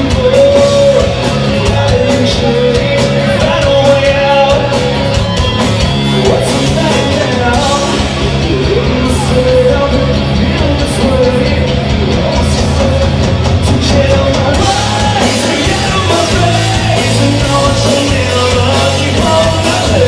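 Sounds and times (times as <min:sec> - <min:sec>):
person singing: 0:00.0 - 0:20.0
rock band playing live: 0:00.0 - 0:20.0.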